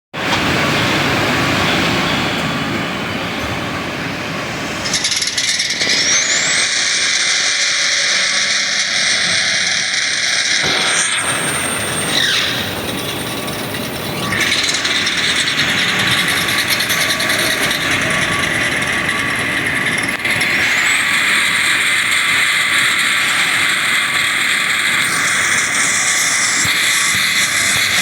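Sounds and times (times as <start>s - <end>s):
high whine: 0.2s - 28.0s
racing car engines running: 2.9s - 28.0s.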